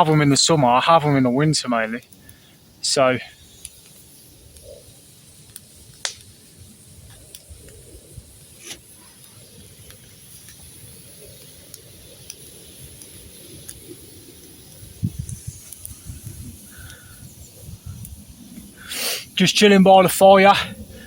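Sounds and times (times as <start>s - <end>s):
campfire crackling and popping: 0.0s - 21.0s
faint steady hiss: 0.0s - 21.0s.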